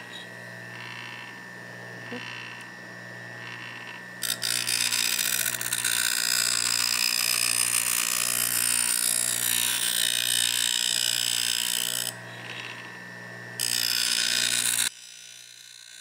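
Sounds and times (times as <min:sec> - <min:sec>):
bench grinder motor hum: 0:00.0 - 0:16.0.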